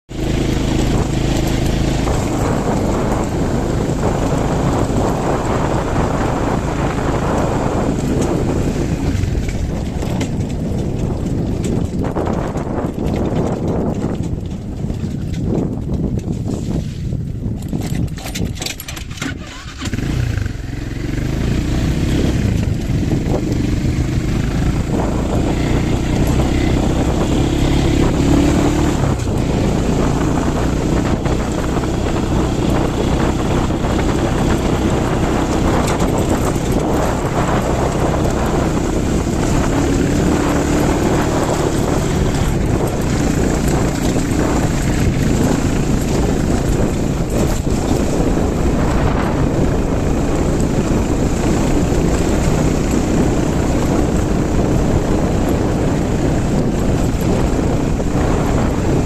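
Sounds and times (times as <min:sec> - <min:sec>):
road or wind noise: 0:00.0 - 0:59.0
vehicle engine running: 0:00.0 - 0:59.0.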